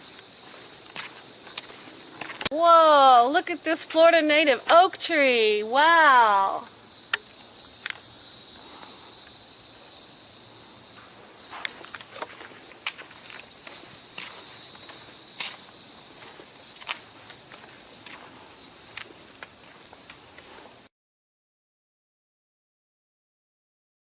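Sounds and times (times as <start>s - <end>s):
insects singing: 0.0s - 20.8s.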